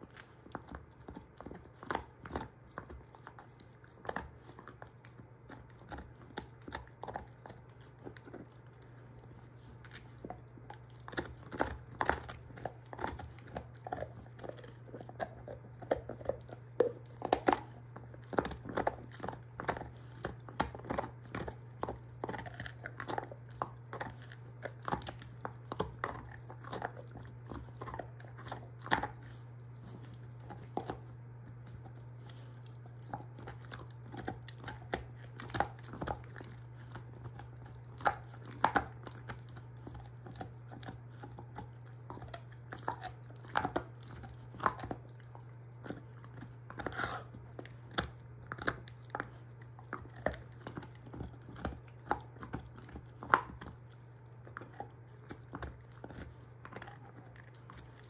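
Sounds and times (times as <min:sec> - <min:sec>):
dog crunching a bone: 0:00.0 - 0:58.0
steady low hum: 0:00.0 - 0:58.0.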